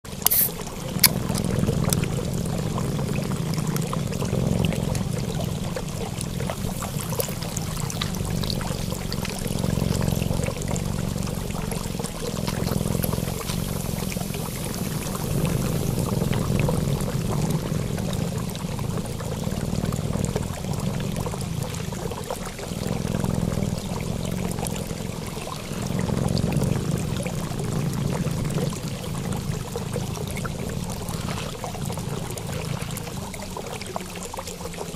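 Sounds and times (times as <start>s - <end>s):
running water: 0.0s - 34.9s.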